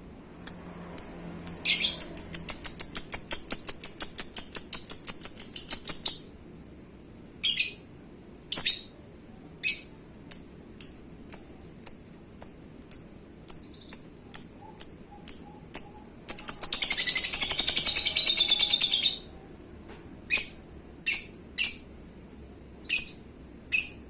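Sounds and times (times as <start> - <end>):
bird chirping: 0.4 - 6.4, 7.4 - 7.9, 8.5 - 9.0, 9.6 - 19.4, 20.3 - 22.0, 22.8 - 24.0.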